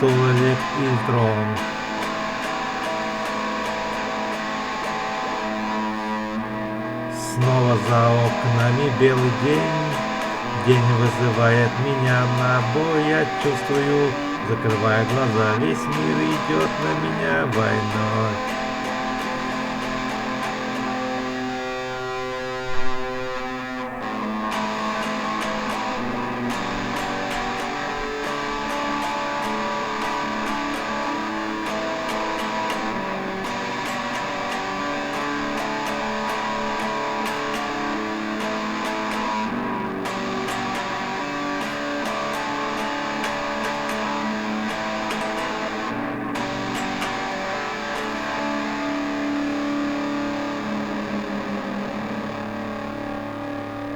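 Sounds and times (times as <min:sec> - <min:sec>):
electric guitar rock instrumental: 0:00.0 - 0:53.9.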